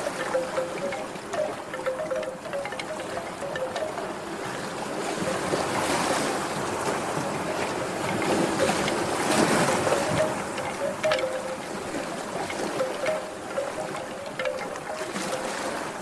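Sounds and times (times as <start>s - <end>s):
ocean waves surf: 0.0s - 16.0s.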